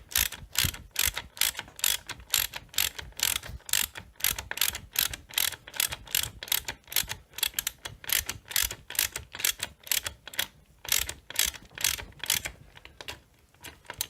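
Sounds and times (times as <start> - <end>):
hand ratchet clicking: 0.0 - 14.0.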